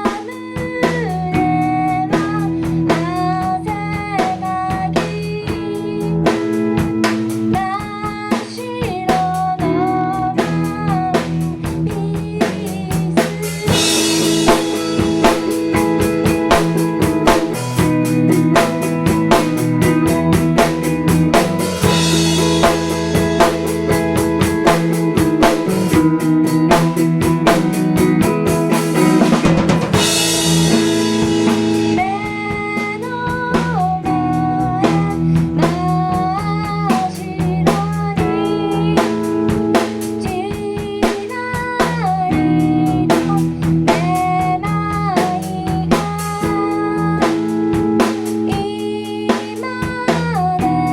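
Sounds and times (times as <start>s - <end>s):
bending melody line: 0.0s - 50.0s
indie-pop band playing: 0.0s - 50.9s.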